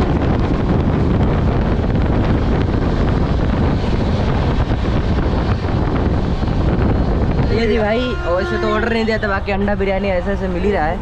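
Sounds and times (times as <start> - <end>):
train rumbling at speed: 0.0 - 11.0
wind rushing over microphone: 0.0 - 11.0.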